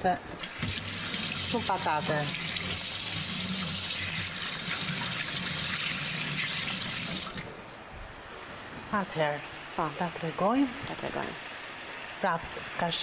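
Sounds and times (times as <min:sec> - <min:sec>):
water running from tap: 0:00.4 - 0:07.6, 0:09.0 - 0:13.0.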